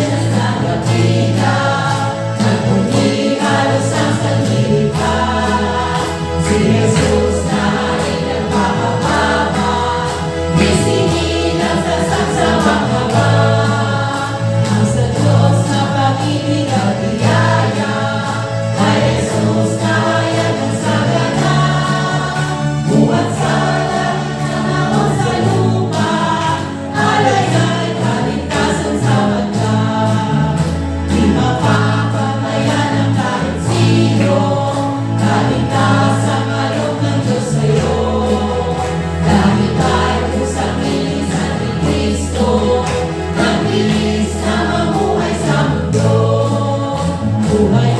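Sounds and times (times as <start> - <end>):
choir singing a carol: 0.0 - 47.9
instrumental backing with beat: 0.0 - 47.9.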